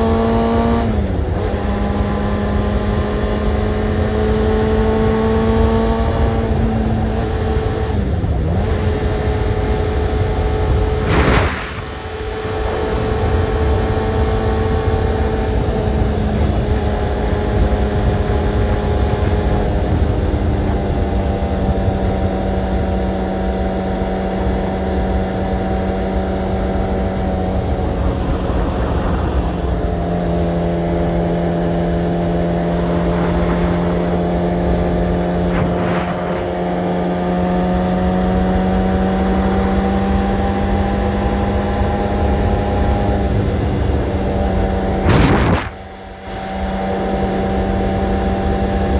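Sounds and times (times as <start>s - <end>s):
motorcycle engine cruising: 0.0s - 48.9s
wind rumble on microphone: 0.0s - 48.9s.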